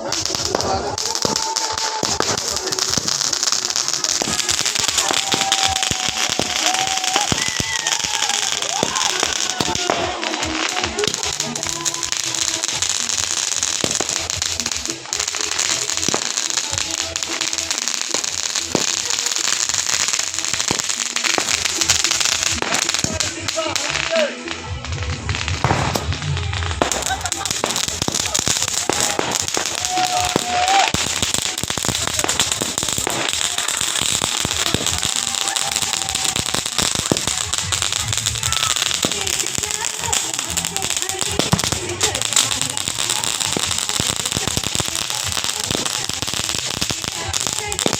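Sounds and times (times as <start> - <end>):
firecrackers crackling: 0.0 - 47.9
fireworks bangs: 0.0 - 47.9.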